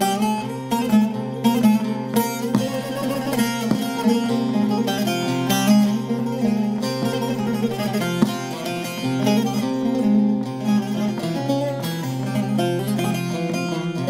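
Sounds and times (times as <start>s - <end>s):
plucked string instrument music: 0.0s - 14.0s.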